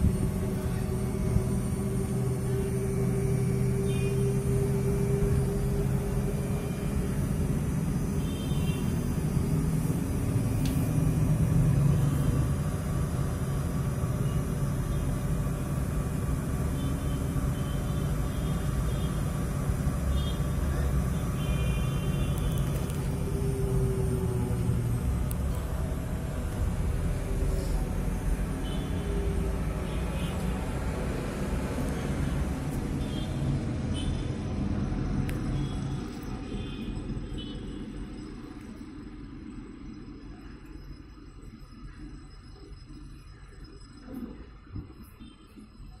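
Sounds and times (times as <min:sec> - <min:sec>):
washing machine drum and motor hum: 0:00.0 - 0:42.9.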